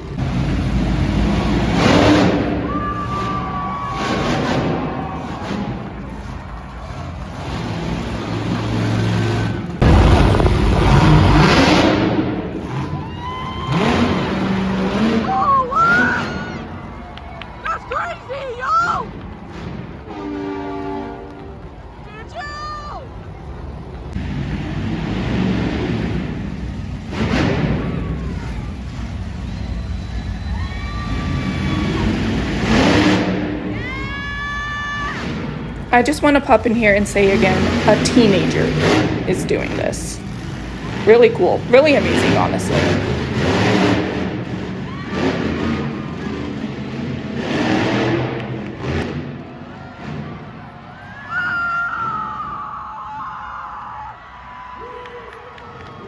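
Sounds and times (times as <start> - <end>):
monster truck engine revving: 0.0 - 21.2, 23.2 - 52.6.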